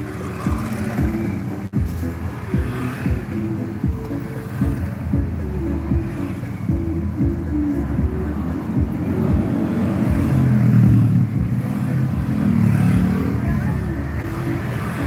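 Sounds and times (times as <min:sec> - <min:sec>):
road noise: 0:00.0 - 0:15.0
vehicle engine running: 0:00.0 - 0:15.0.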